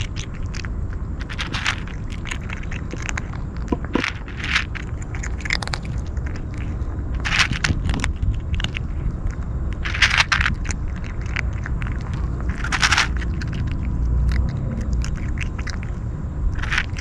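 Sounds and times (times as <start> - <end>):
kitten crunching dry kibble: 0.0 - 17.0
low rumble: 0.0 - 17.0.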